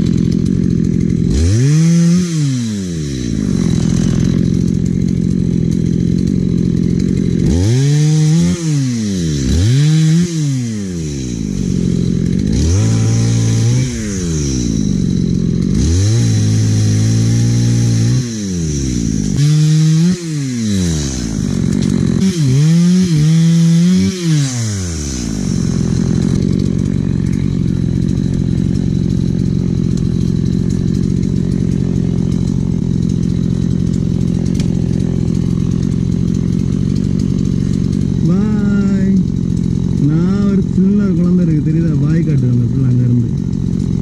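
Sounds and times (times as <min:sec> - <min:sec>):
chainsaw engine revving: 0:00.0 - 0:44.0.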